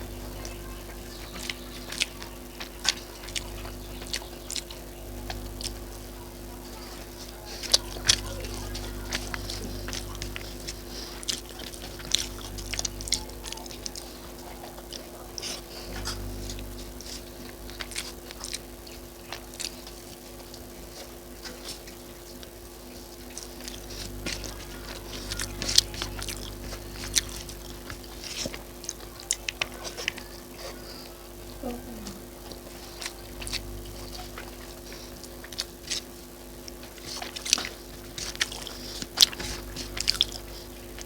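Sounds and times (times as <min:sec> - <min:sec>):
crunchy food being chewed: 0:00.0 - 0:41.0
steady low hum: 0:00.0 - 0:41.0.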